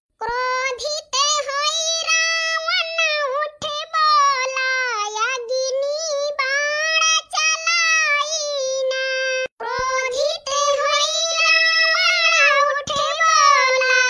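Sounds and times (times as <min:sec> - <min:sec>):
high-pitched cartoon voice singing: 0:00.2 - 0:14.0.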